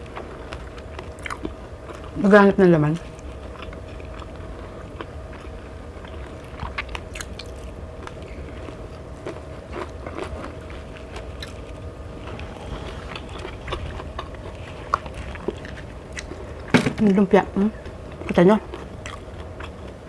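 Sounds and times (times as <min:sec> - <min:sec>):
person chewing and crunching food: 0:00.0 - 0:02.2, 0:03.0 - 0:16.7, 0:18.0 - 0:20.0
low hum: 0:00.0 - 0:20.0.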